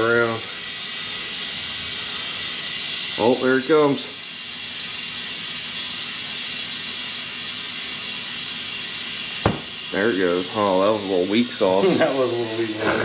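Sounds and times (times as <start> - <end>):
compressed air hissing: 0.0 - 13.0.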